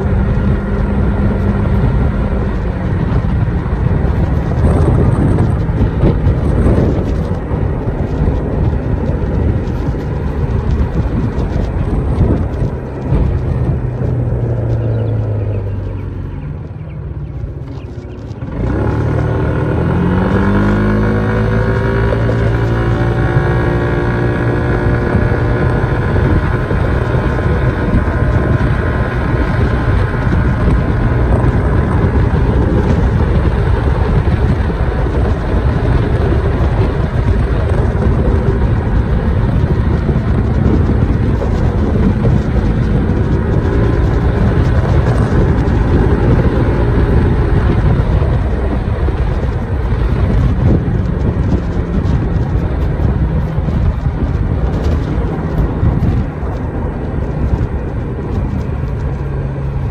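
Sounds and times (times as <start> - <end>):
road noise: 0.0 - 59.9
scooter engine running: 0.0 - 59.9
wind rush on microphone: 0.0 - 59.9.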